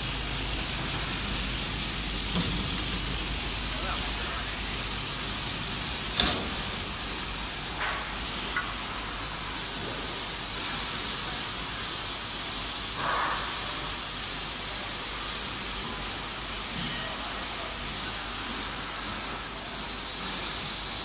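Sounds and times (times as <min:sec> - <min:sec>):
washing machine hissing: 0:00.0 - 0:21.0.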